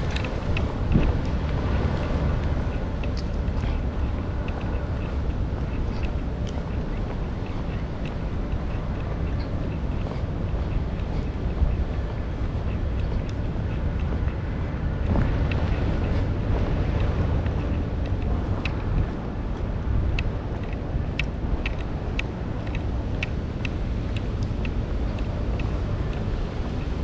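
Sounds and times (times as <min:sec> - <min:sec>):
rain: 0:00.0 - 0:27.0
sharp ticks: 0:00.0 - 0:27.0
street traffic: 0:00.0 - 0:27.0
wind on microphone: 0:00.0 - 0:27.0.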